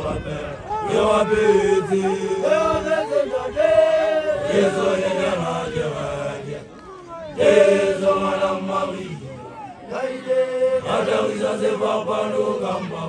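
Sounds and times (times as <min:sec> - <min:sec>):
group chanting in unison: 0:00.0 - 0:13.0.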